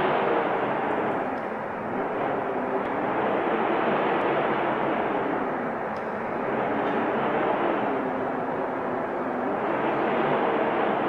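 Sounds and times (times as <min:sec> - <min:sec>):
snowstorm wind blowing: 0:00.0 - 0:11.0.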